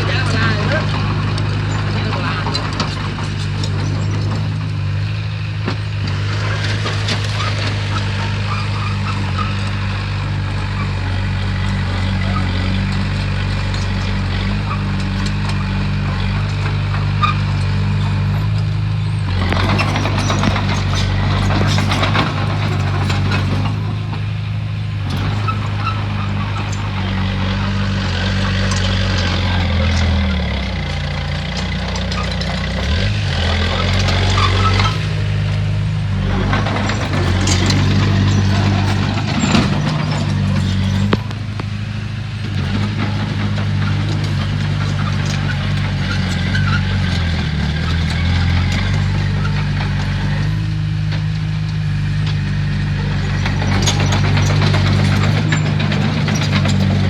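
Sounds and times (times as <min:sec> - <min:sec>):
clattering and scraping of rock: 0:00.0 - 0:18.6, 0:19.2 - 0:57.0
bulldozer diesel engine running: 0:00.0 - 0:57.0.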